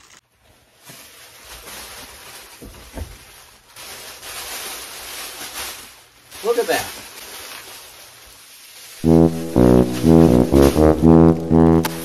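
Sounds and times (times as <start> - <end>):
bubble wrap rustling and crinkling: 0.0 - 12.0.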